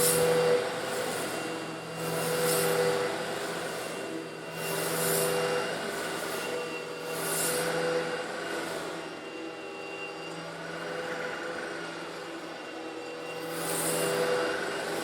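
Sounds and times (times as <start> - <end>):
vacuum cleaner motor hum: 0.0 - 15.0.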